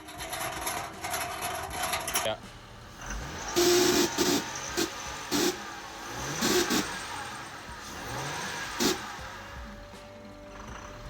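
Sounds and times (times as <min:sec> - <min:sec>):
car engine revving: 0:00.0 - 0:11.0
exhaust heat shield rattling: 0:00.0 - 0:11.0.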